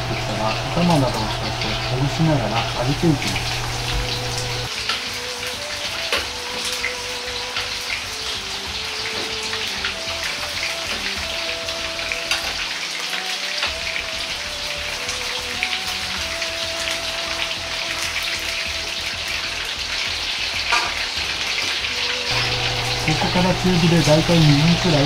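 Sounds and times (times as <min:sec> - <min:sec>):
chicken deep-frying in oil: 0:00.0 - 0:25.0.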